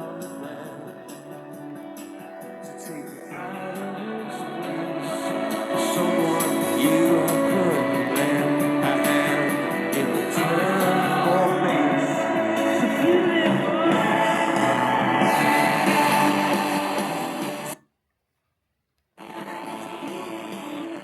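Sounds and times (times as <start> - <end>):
distorted rock-pop song: 0.0 - 17.8.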